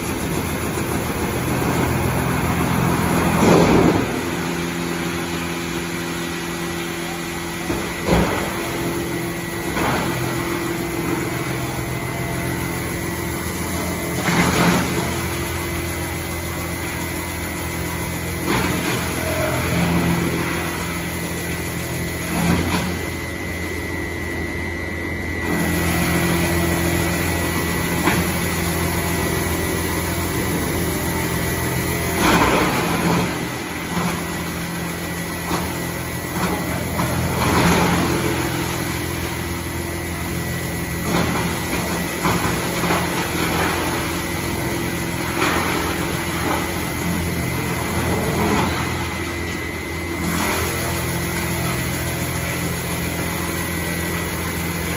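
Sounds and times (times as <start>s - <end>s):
wood chipper engine drone: 0.0s - 54.9s.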